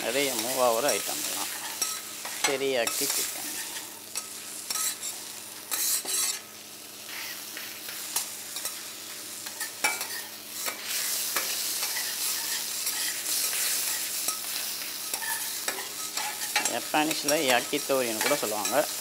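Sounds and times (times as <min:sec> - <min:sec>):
spatula scraping griddle: 0:00.0 - 0:06.5, 0:07.1 - 0:08.8, 0:09.4 - 0:19.0
chicken sizzling in oil: 0:00.0 - 0:19.0.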